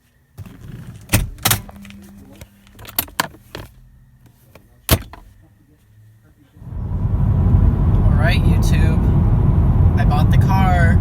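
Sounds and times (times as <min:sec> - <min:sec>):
faint low hum: 0:00.1 - 0:11.0.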